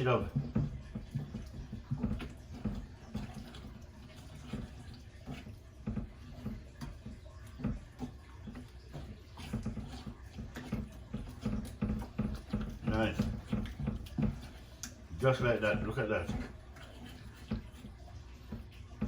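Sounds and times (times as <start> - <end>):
batter squelching as stirred: 0.0 - 19.0.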